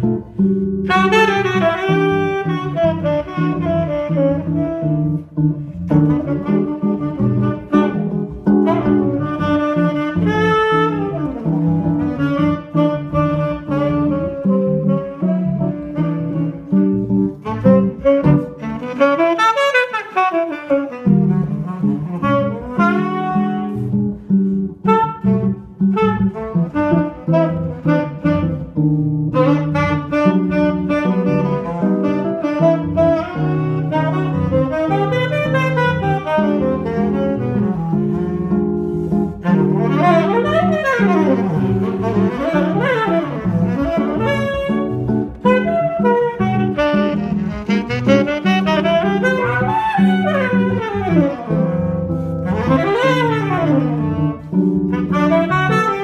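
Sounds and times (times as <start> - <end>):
jazz guitar chords: 0.0 - 56.0
tenor saxophone melody: 0.0 - 56.0.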